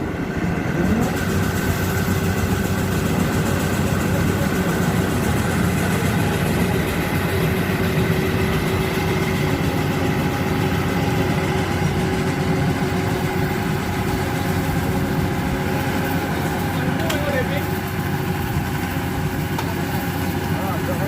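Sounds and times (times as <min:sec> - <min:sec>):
steady tones: 0:00.0 - 0:20.6
diesel engine drone: 0:00.0 - 0:21.0.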